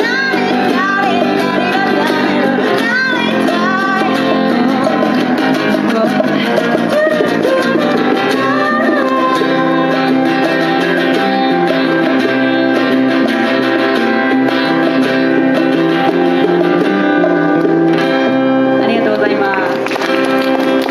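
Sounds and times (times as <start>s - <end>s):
band music: 0.0s - 20.9s
strummed guitar: 0.0s - 20.9s
gliding melody line: 0.8s - 19.2s.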